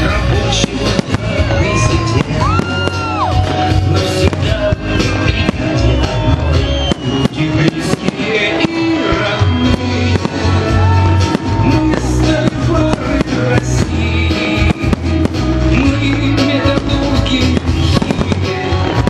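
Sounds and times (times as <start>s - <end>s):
fireworks bangs: 0.0s - 19.0s
loud music: 0.0s - 19.0s.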